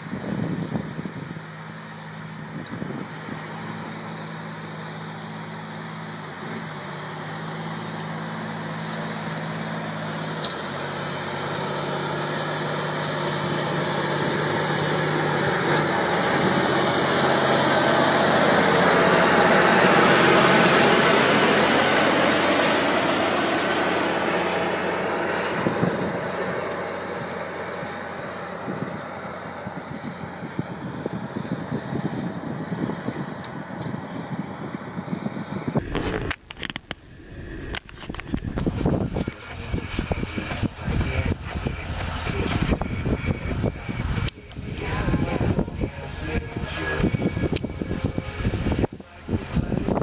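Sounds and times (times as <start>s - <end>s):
tractor engine roaring under load: 0.0s - 50.0s.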